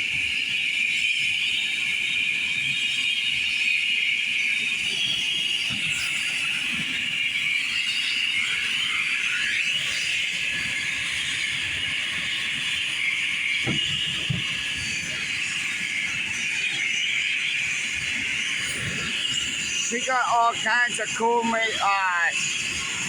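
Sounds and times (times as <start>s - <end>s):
helicopter turbine engine whine: 0.0s - 23.0s.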